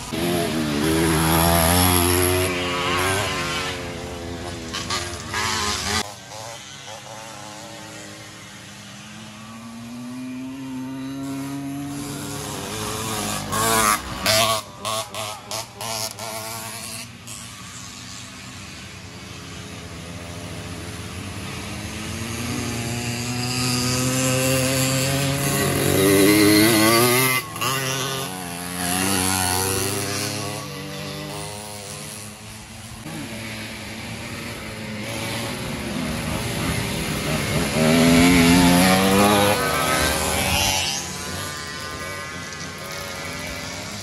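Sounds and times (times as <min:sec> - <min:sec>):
louder engine passing: 0:00.0 - 0:44.0
small two-stroke engines revving: 0:00.0 - 0:44.0.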